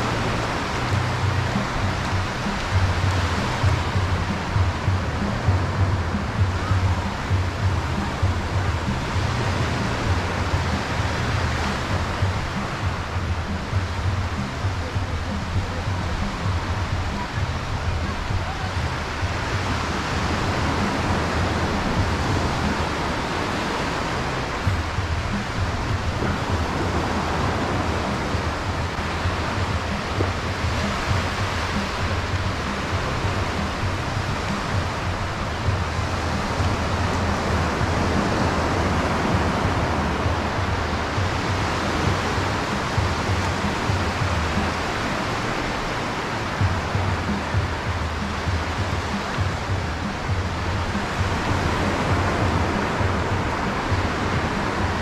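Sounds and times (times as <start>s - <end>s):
ocean surf breaking: 0.0s - 55.0s
wind rumble on microphone: 0.0s - 55.0s.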